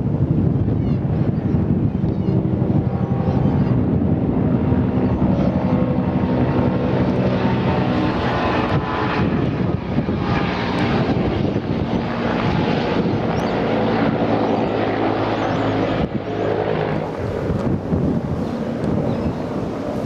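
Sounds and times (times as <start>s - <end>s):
helicopter engine and rotor drone: 0.0s - 20.0s
wind noise on microphone: 0.0s - 20.0s.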